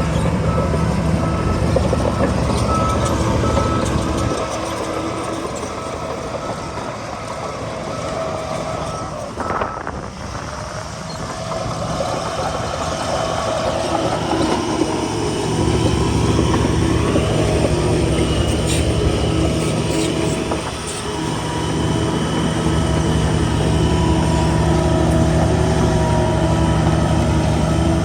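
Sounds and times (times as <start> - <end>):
heavy diesel machinery running: 0.0 - 28.0.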